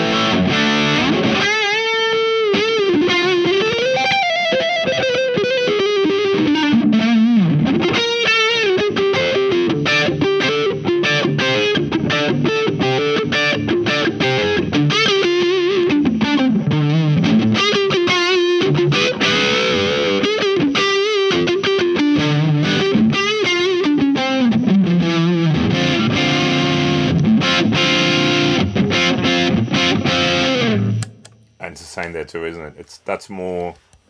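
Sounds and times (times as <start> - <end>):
distorted electric guitar: 0.0 - 31.4.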